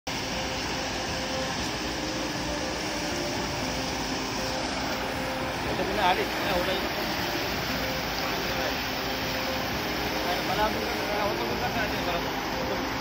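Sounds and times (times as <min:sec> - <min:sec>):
floodwater rushing: 0:00.1 - 0:13.0.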